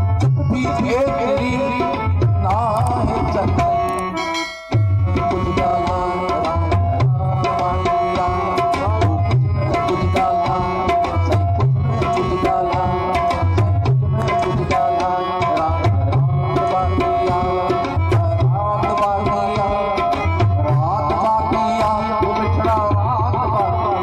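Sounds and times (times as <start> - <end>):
sustained melody line: 0.0 - 24.0.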